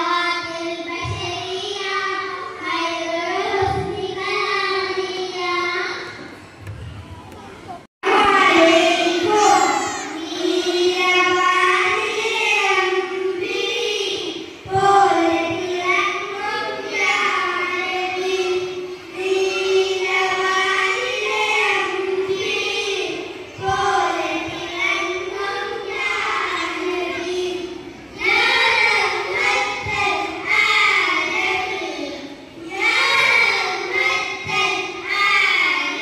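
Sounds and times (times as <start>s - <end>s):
child singing: 0.0s - 6.1s, 8.1s - 36.0s.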